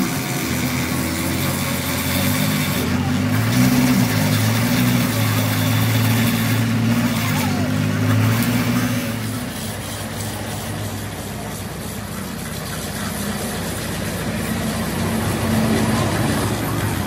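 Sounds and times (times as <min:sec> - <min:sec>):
grinder buffing rubber: 0:00.0 - 0:17.0
low motor hum: 0:00.0 - 0:17.0.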